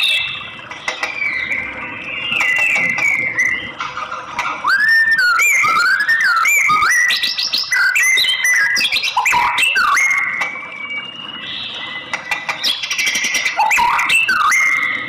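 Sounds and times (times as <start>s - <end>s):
bird singing whistled notes: 0.0s - 3.8s, 4.6s - 15.0s.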